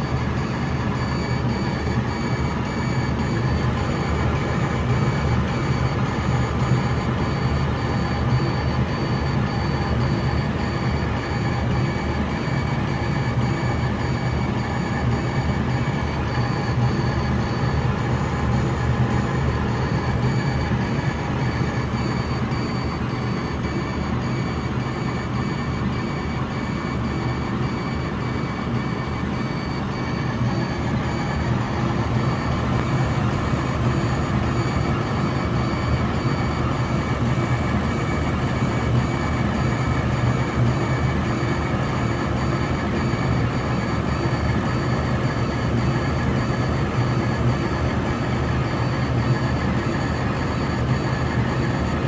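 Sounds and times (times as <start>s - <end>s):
faint high whine: 0.0s - 52.0s
laser engraver hum and whir: 0.0s - 52.0s.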